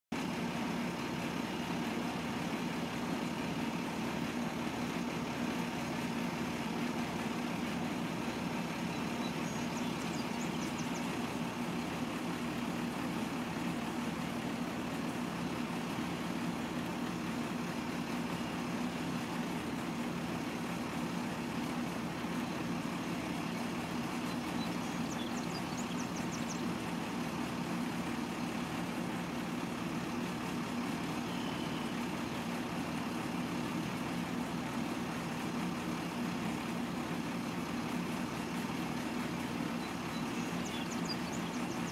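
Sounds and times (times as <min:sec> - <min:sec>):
truck engine idling: 0:00.2 - 0:41.9.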